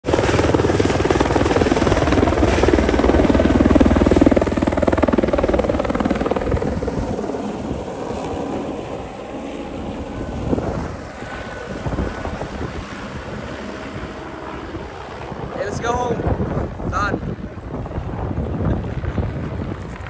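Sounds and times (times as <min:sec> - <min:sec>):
helicopter rotor chopping: 0:00.0 - 0:20.0.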